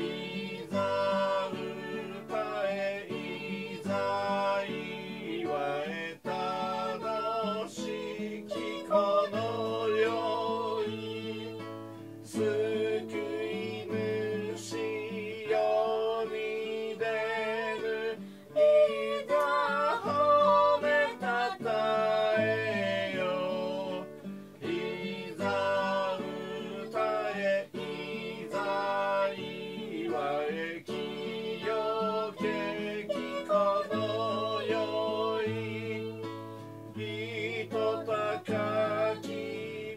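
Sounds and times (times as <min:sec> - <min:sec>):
person singing a hymn: 0:00.0 - 0:39.9
strummed acoustic guitar: 0:00.0 - 0:39.9.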